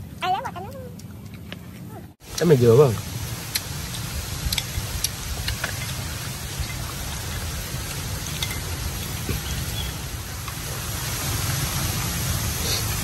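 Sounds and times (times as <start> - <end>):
snails sizzling on grill: 2.2 - 13.0.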